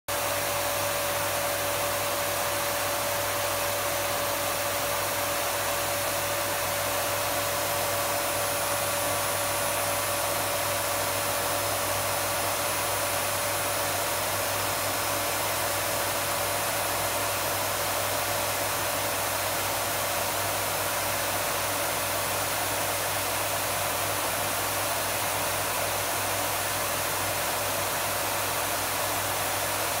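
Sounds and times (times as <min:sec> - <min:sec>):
vacuum cleaner running: 0:00.1 - 0:30.0.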